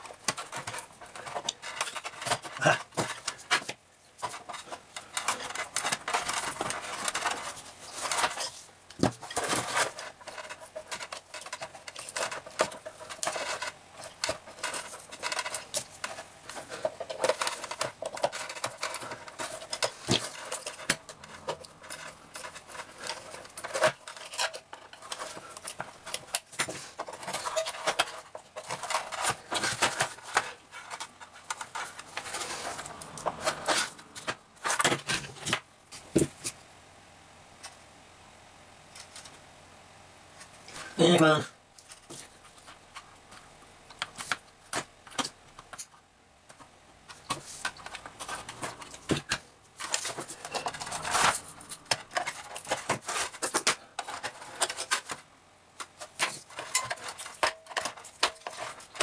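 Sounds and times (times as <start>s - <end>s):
tools scraping and clicking on batteries: 0.0s - 36.6s, 41.8s - 59.0s.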